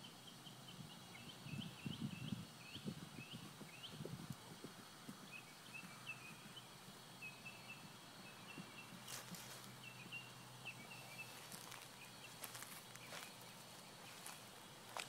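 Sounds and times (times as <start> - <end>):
bird chirping: 0.0 - 4.1, 5.2 - 15.0.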